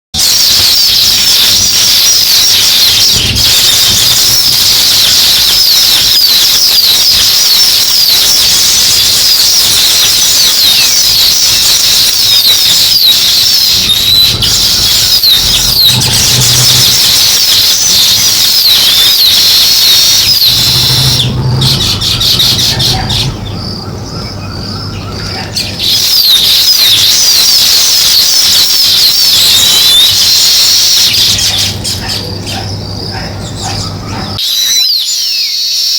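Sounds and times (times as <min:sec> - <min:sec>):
flock of sparrows chirping: 0:00.2 - 0:35.6.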